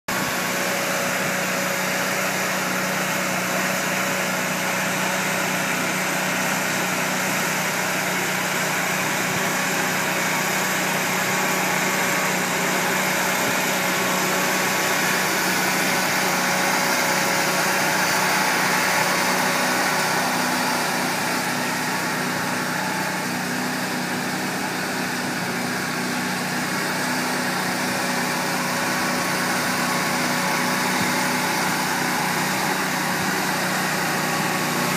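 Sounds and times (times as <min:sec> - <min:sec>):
machine engine humming: 0:00.1 - 0:34.9.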